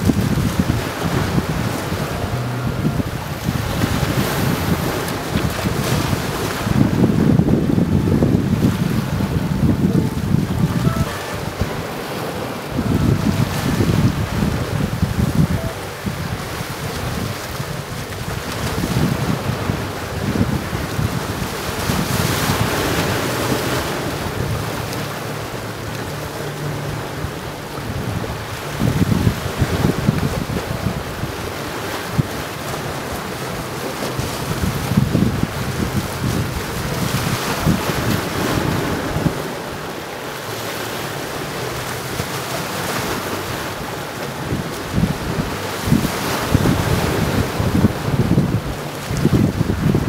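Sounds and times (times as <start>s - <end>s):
small waves washing: 0.0s - 50.0s
wind buffeting microphone: 0.0s - 50.0s.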